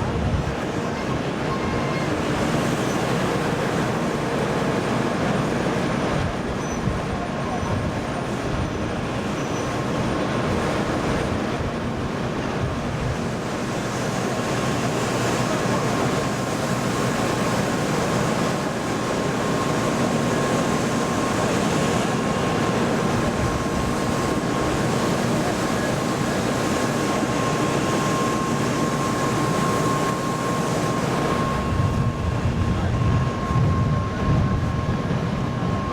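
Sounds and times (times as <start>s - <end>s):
thin steady whine: 0.0s - 35.9s.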